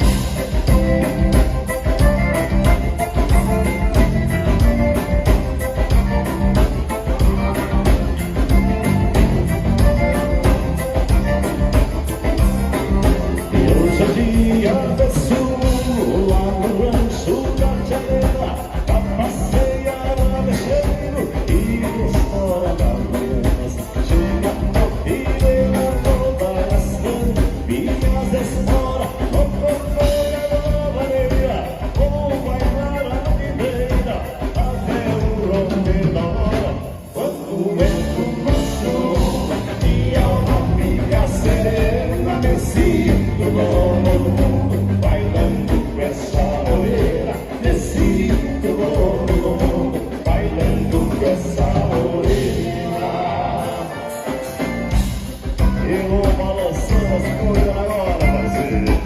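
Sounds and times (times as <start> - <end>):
accordion dance music: 0.0 - 59.0.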